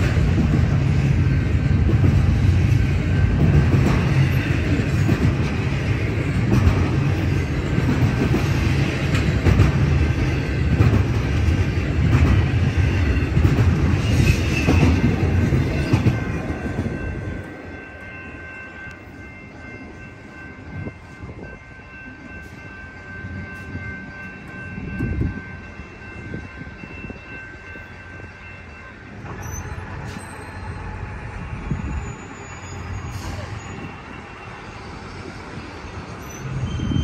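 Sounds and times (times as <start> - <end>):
crossing warning bells ringing: 0.0 - 37.0
freight train passing: 0.0 - 37.0.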